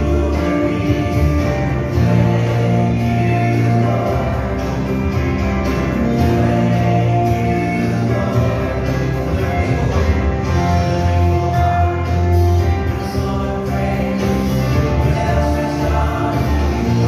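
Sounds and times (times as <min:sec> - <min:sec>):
song with singing: 0:00.0 - 0:17.0
sustained bass notes: 0:00.0 - 0:17.0.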